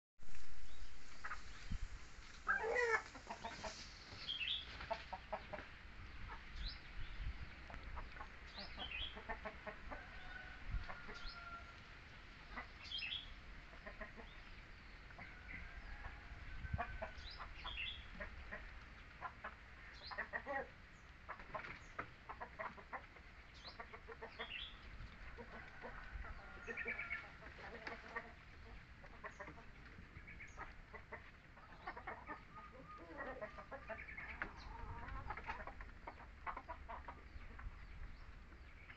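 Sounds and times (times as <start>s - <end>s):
faint background noise: 0.2s - 38.9s.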